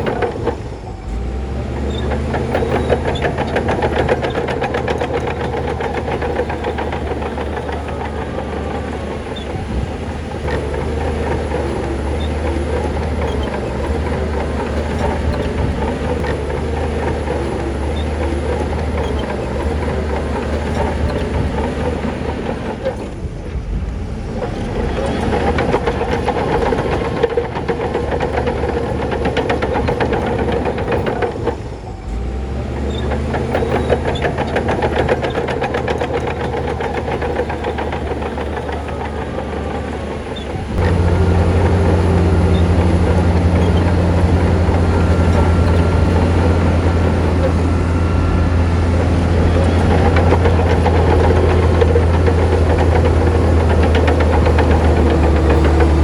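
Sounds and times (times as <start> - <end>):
metallic rattle: 0.0 - 23.1, 24.5 - 56.0
bulldozer engine running: 0.0 - 56.0.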